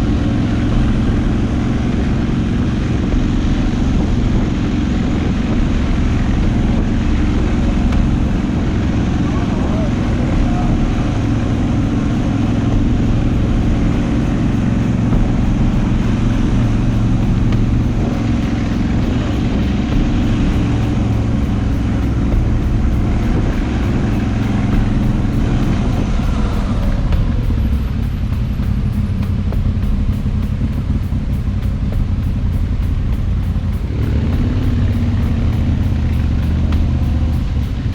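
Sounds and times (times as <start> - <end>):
motorcycle engine running: 0.0 - 37.9
wind and road noise: 0.0 - 37.9.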